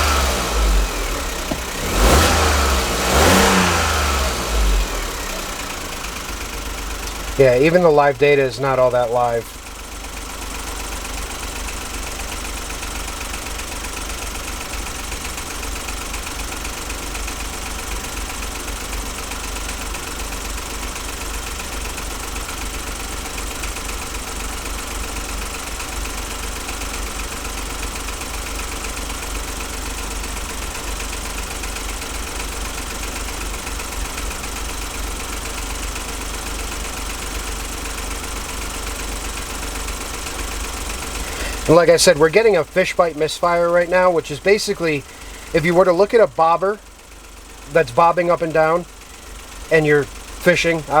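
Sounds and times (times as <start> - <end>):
car engine running with misfire: 0.0 - 51.0.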